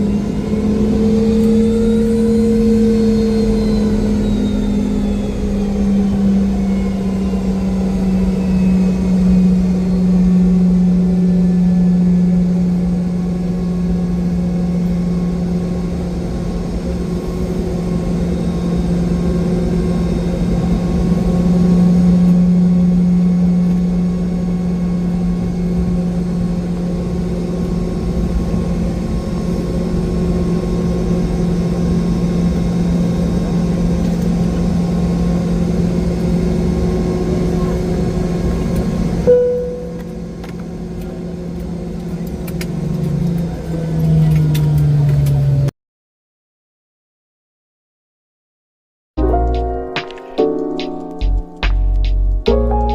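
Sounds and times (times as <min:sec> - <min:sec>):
jet engine cabin drone: 0:00.0 - 0:45.7.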